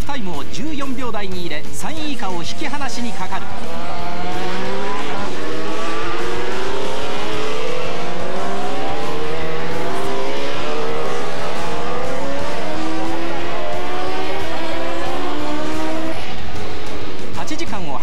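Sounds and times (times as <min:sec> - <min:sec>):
racing motorcycle engines accelerating: 0:01.8 - 0:18.0.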